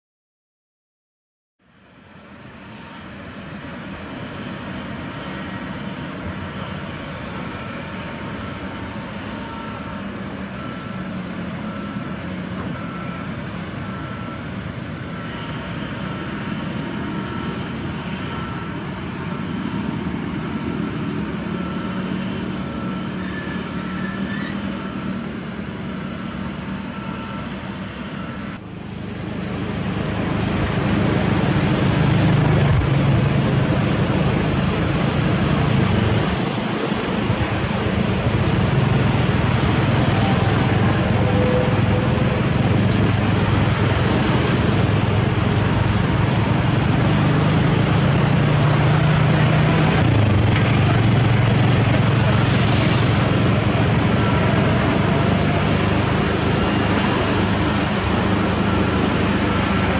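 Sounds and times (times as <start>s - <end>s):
excavator engines running: 1.7s - 59.9s.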